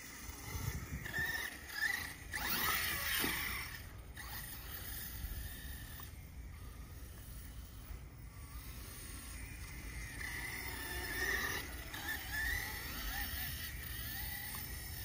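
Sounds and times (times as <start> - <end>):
rc car motor whine: 0.0 - 15.0.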